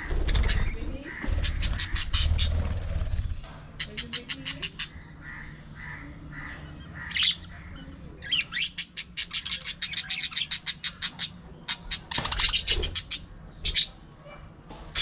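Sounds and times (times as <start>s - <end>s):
budgerigars chattering: 0.0s - 14.0s.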